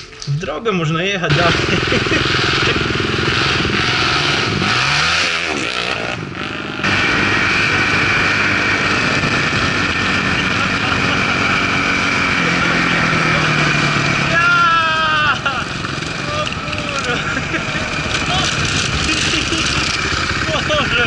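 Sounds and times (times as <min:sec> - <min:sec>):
dirt bike engines: 0:01.2 - 0:21.0.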